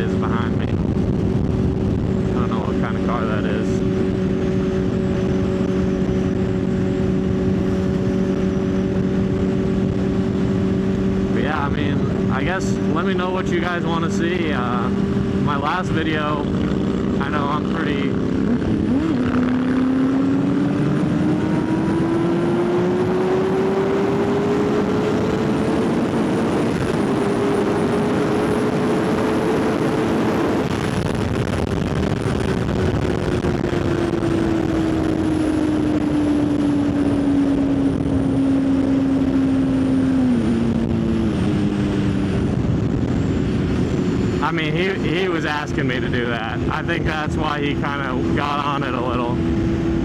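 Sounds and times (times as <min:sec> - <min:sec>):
motorcycle engine accelerating: 0:00.0 - 0:50.0
steady rush of noise: 0:00.0 - 0:50.0.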